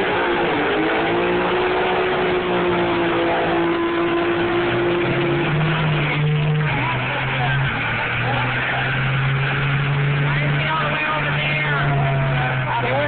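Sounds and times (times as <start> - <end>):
drag racing engines running: 0.0 - 13.0.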